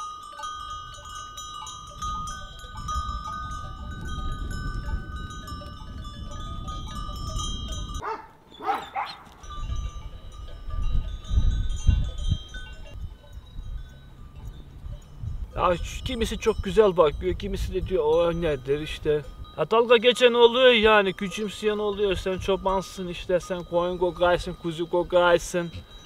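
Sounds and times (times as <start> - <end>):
animal bells tinkling: 0.0 - 26.0.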